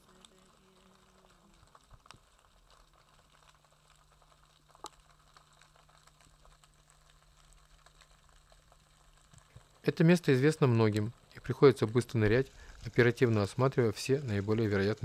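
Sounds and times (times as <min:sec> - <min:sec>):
underwater clicks and crackle: 0:00.0 - 0:15.0.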